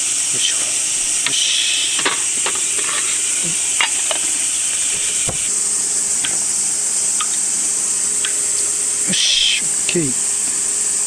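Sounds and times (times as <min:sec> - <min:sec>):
cicadas shrilling: 0:00.0 - 0:11.0
low steady hum: 0:00.0 - 0:11.0.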